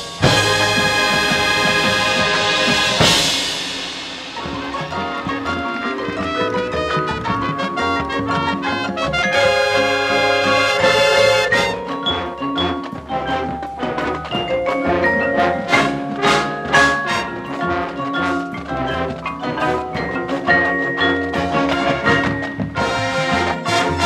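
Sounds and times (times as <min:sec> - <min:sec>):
marching band brass and drums: 0:00.0 - 0:24.0
marimba and xylophone notes: 0:00.0 - 0:24.0.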